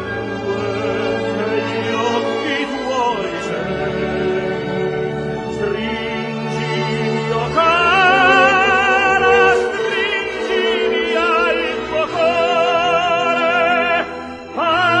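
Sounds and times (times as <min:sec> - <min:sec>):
person singing with vibrato: 0:00.2 - 0:15.0.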